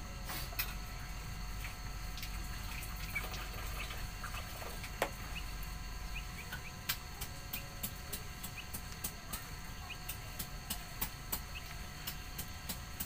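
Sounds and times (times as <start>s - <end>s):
small birds chirping: 2.2s - 12.7s.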